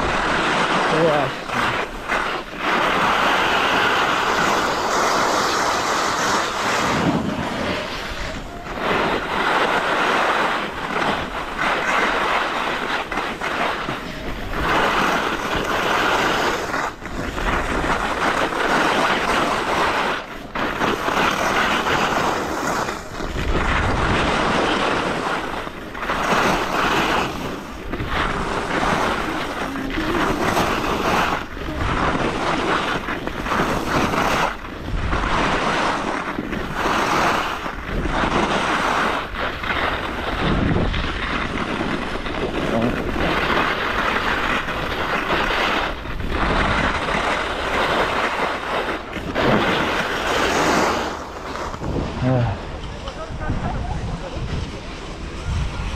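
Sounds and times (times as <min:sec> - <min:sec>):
skis scraping over hard snow: 0:00.0 - 0:55.9
wind buffeting microphone: 0:00.0 - 0:55.9.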